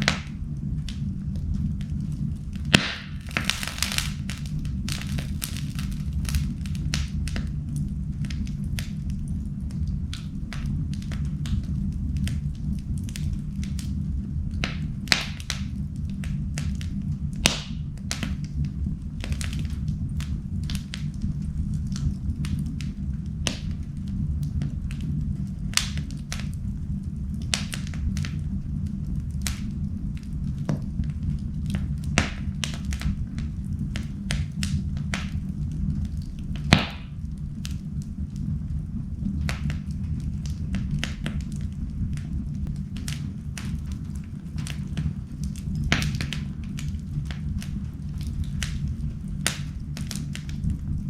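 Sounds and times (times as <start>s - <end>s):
fire cracks and pops: 0.0s - 51.0s
fire flames rumbling: 0.0s - 51.0s.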